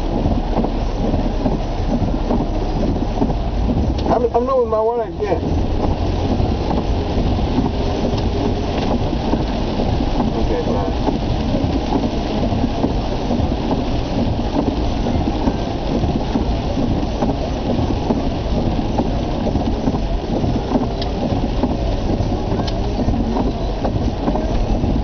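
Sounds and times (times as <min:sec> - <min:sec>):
car rumble: 0:00.0 - 0:25.0
rain hissing: 0:00.0 - 0:25.0.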